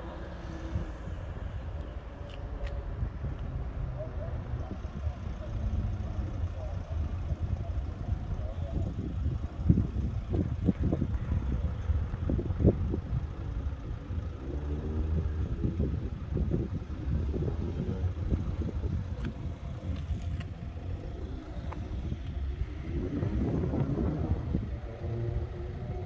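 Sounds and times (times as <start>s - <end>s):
steady low rumble: 0.0s - 26.0s
vehicle engines running: 0.0s - 26.0s.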